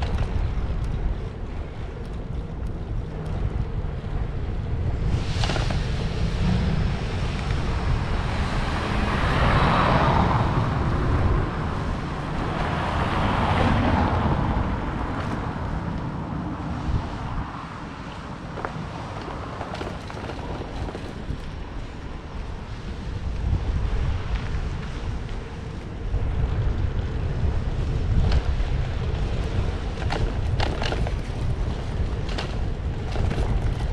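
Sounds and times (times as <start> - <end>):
rushing outdoor background: 0.0 - 33.9
wind buffeting microphone: 0.0 - 33.9.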